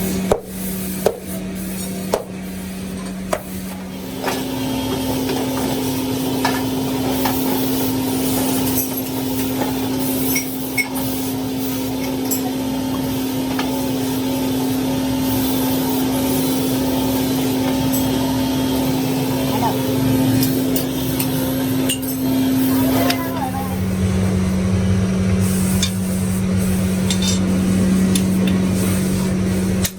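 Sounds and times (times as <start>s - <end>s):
workshop machine humming: 0.0s - 29.9s.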